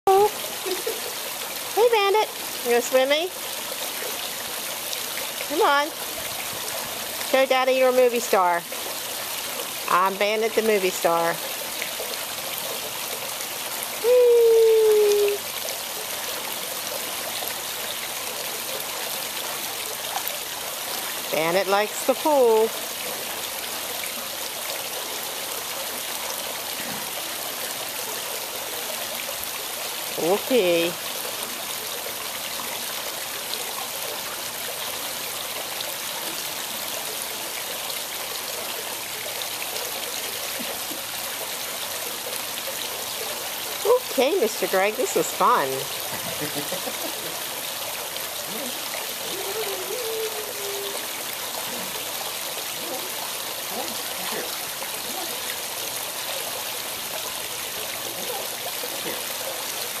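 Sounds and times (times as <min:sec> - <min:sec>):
waterfall splashing into pool: 0:00.1 - 1:00.0.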